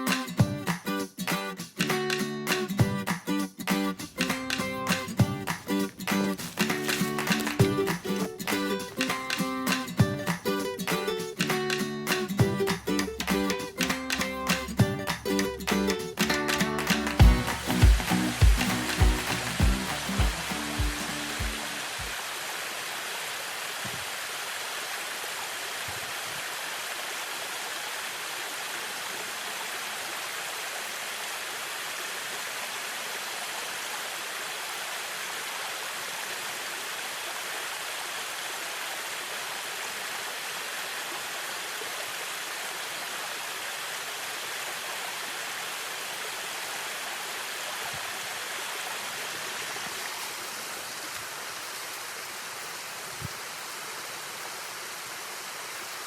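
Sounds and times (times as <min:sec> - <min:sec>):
river water rushing over rocks: 0:04.0 - 0:11.6, 0:12.4 - 0:56.0.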